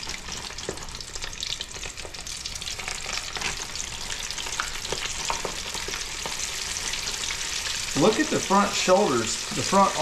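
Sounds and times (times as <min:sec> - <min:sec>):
hot oil bubbling and crackling: 0:00.0 - 0:10.0.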